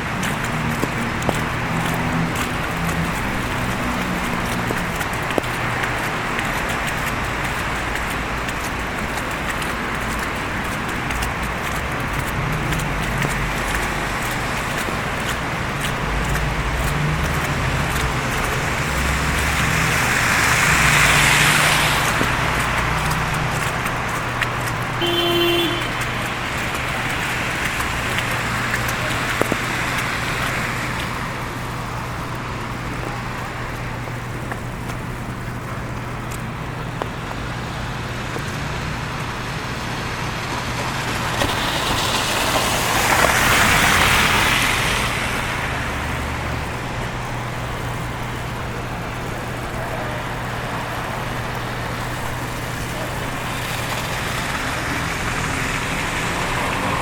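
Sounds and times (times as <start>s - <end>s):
vehicle passing by: 0.0s - 31.3s, 38.3s - 47.1s, 49.8s - 57.0s
city street traffic hum: 0.0s - 57.0s.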